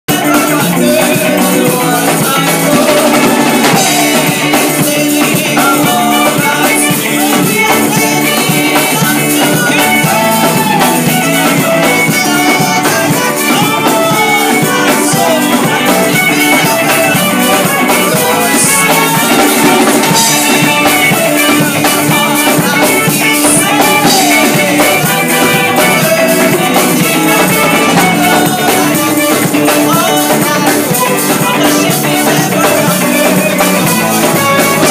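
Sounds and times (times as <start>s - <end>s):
electric guitar: 0.0s - 34.9s
drum kit: 0.1s - 34.9s
woman singing: 0.1s - 34.9s.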